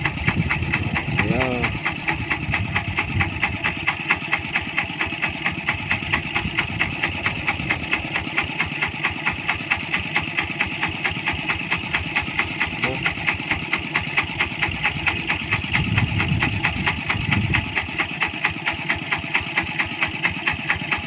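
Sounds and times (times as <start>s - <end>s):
small engine knocking: 0.0s - 21.0s.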